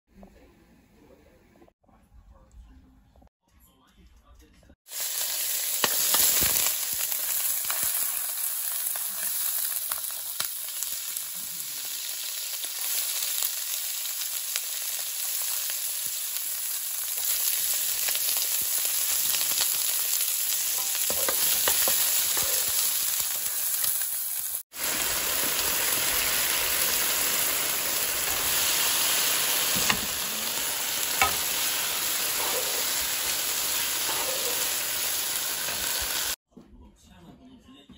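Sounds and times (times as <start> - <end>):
oil sizzling in frying pan: 4.9 - 36.4.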